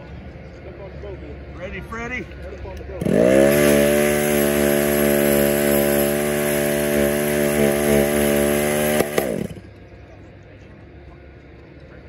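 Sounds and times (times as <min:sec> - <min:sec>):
small engines humming: 0:00.0 - 0:12.0.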